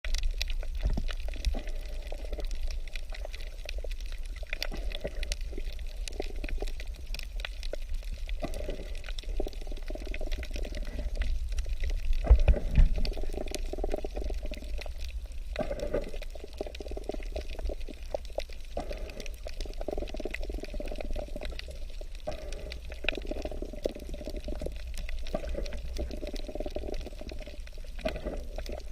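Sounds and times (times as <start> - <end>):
underwater low rumble: 0.0 - 28.9
water washing and crackling: 0.0 - 28.9.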